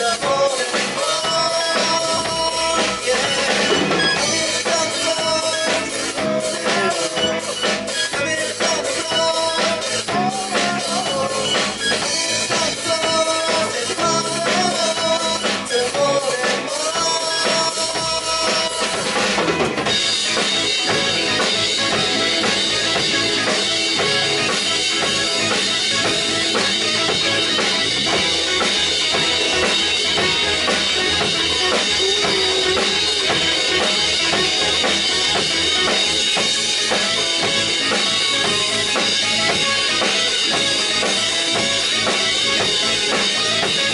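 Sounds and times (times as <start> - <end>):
drum kit: 0.0 - 43.9
rock band playing: 0.0 - 43.9.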